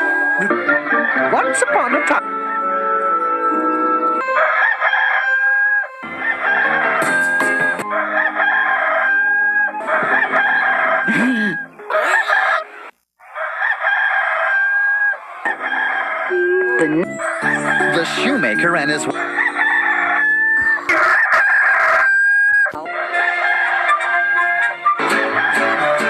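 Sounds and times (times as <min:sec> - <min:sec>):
rooster crowing: 0:00.0 - 0:01.4, 0:04.2 - 0:26.0.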